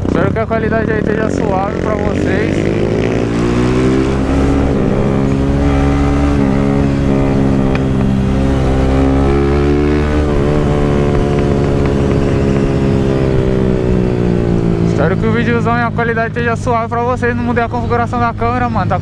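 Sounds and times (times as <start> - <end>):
motorcycle engine under throttle: 0.0 - 18.8.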